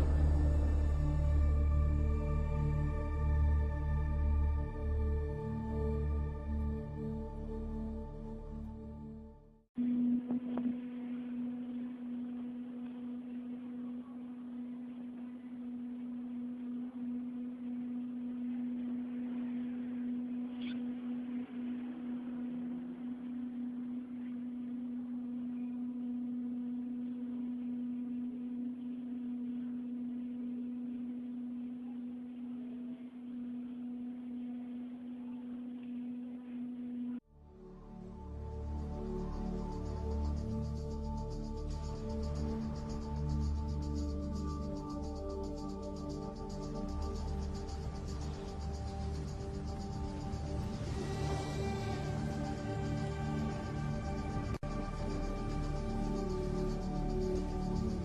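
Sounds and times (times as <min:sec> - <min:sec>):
light background hiss: 0:00.0 - 0:09.0, 0:09.8 - 0:58.0
low droning hum: 0:00.0 - 0:58.0.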